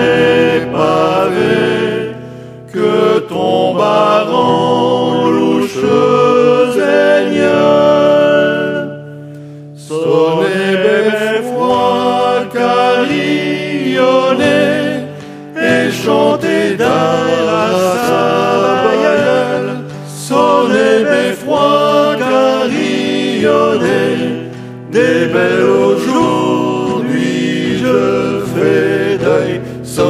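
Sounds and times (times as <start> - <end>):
acoustic guitar: 0.0 - 30.0
men singing in harmony: 0.0 - 30.0.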